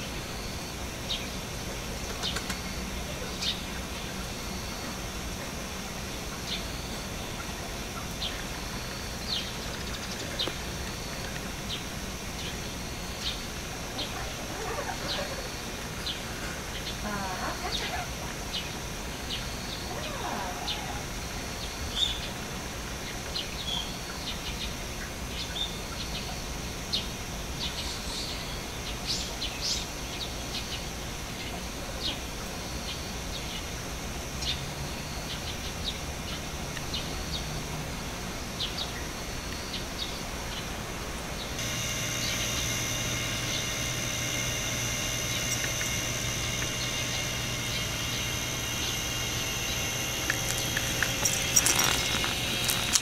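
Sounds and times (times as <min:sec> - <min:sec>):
small birds chirping: 0:00.0 - 0:33.8, 0:34.4 - 0:37.6, 0:38.4 - 0:53.0
hum with fixed tones: 0:00.0 - 0:53.0
outdoor background noise: 0:00.0 - 0:53.0.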